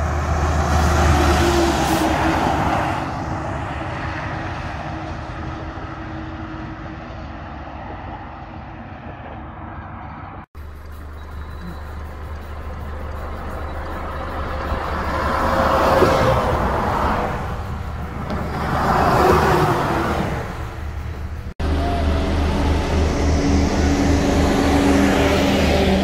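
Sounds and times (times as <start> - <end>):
diesel truck engine droning: 0.0 - 8.8, 10.6 - 26.0
truck passing: 0.0 - 26.0.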